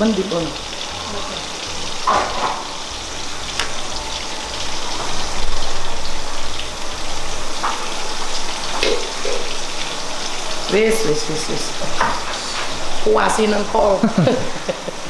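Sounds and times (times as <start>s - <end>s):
food sizzling in pans: 0.0s - 15.0s.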